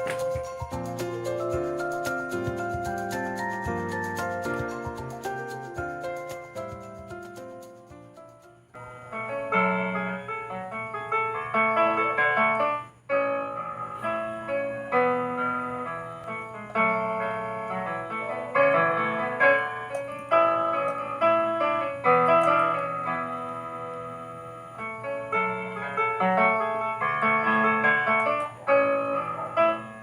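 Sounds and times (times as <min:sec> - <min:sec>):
piano keyboard music: 0:00.0 - 0:30.0.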